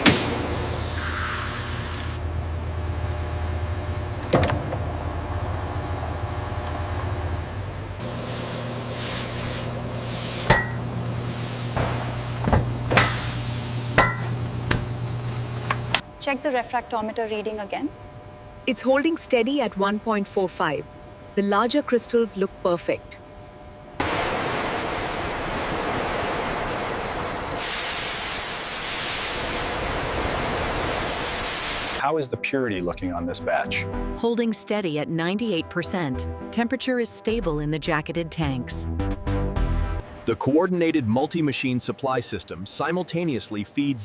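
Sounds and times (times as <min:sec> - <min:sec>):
factory machinery humming: 0:00.0 - 0:32.0, 0:40.0 - 0:44.0.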